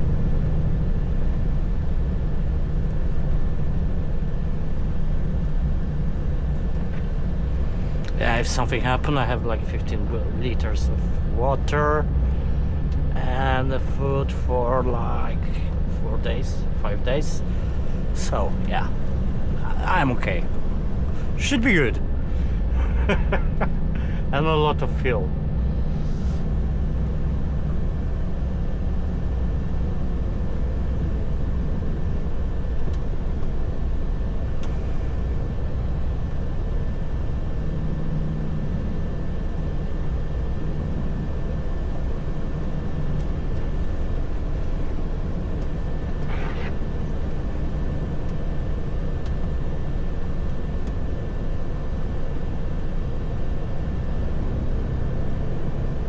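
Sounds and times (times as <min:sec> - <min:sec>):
thin steady whine: 0:00.0 - 0:56.0
truck engine and tyres droning: 0:00.0 - 0:56.0.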